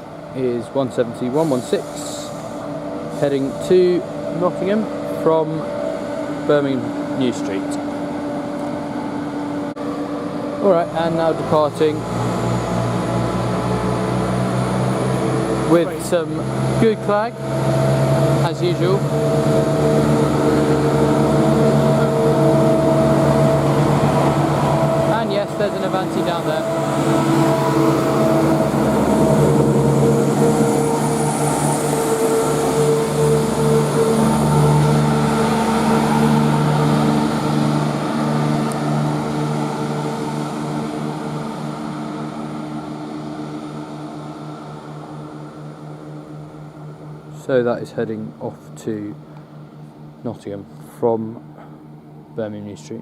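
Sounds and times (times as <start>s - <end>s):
diesel train engine drone: 0.0s - 53.0s.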